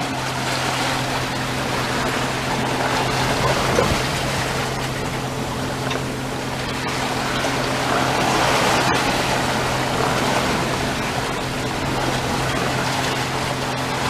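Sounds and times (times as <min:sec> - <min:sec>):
water rushing past hull: 0:00.0 - 0:14.0
wind: 0:00.0 - 0:14.0.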